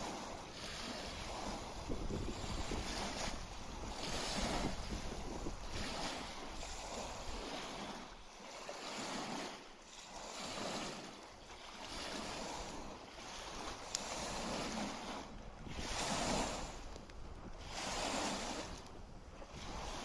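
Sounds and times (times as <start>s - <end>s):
lake waves washing onto shore: 0.0s - 20.0s.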